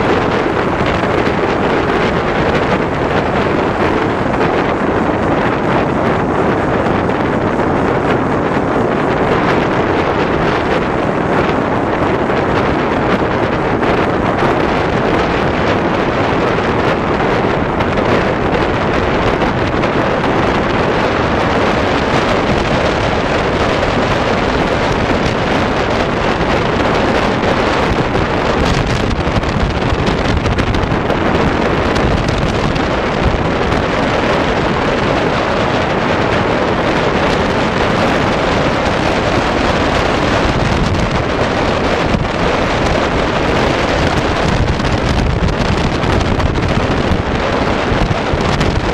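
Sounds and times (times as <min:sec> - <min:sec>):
motorcycle engine and road noise: 0:00.0 - 0:48.9
wind rush on microphone: 0:00.0 - 0:48.9.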